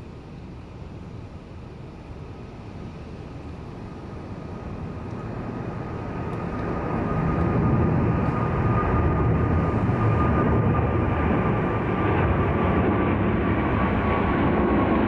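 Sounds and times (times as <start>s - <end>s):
thin steady whine: 0.0s - 14.8s
jet airliner rumble: 0.0s - 15.0s.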